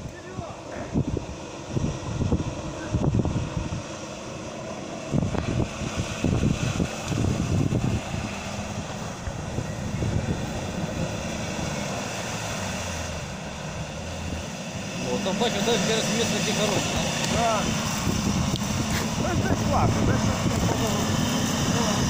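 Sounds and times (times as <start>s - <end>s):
off-road vehicle engine under load: 0.0s - 22.0s
vehicle driving through water and mud: 0.0s - 22.0s
wind buffeting microphone: 0.0s - 22.0s.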